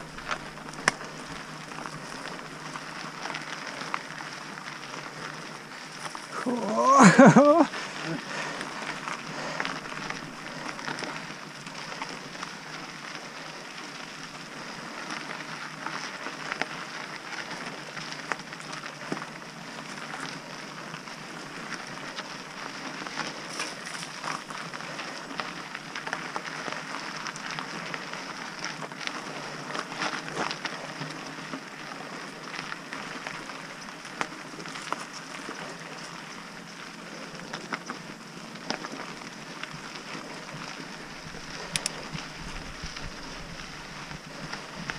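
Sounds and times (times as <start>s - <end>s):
bike clicks and rattles: 0.0s - 6.3s, 7.2s - 44.9s
bike tyres crunching over gravel: 0.0s - 44.9s.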